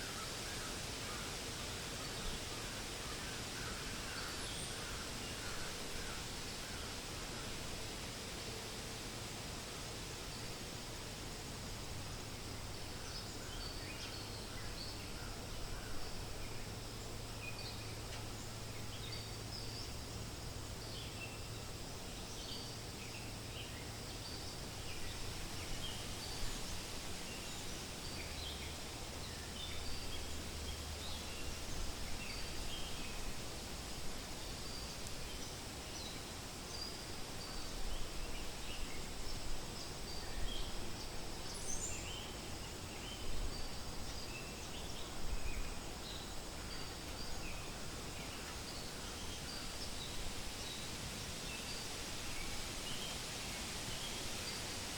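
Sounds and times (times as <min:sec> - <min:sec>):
wind rustling leaves: 0:00.0 - 0:54.9.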